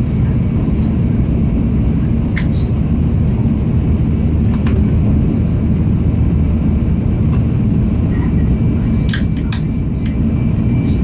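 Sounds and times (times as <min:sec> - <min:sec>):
train rumble inside passenger car: 0:00.0 - 0:11.0.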